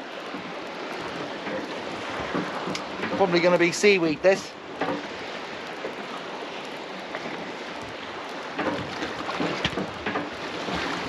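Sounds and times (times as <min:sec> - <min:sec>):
water rushing and lapping: 0:00.0 - 0:11.0
wind: 0:00.0 - 0:11.0
knocks and slaps on boat: 0:00.2 - 0:06.2, 0:07.0 - 0:11.0.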